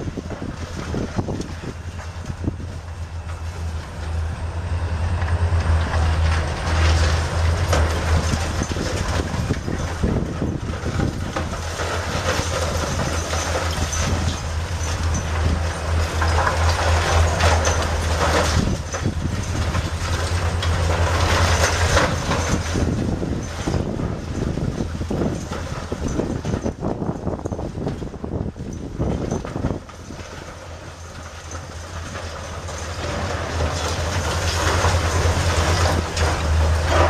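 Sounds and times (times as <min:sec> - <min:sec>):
excavator diesel engine rumbling: 0:00.0 - 0:37.0.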